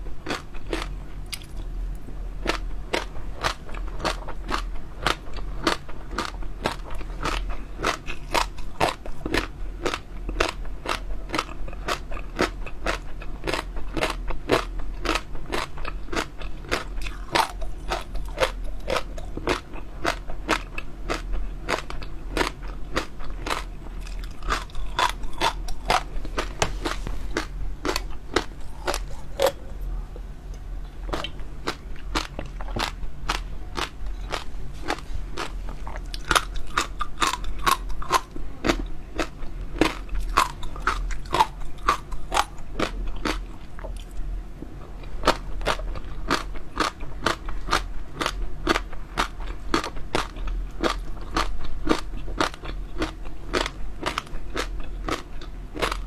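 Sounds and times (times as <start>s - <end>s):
crunchy chewing with pops: 0.2s - 1.7s, 2.4s - 29.8s, 31.0s - 44.3s, 45.0s - 56.0s.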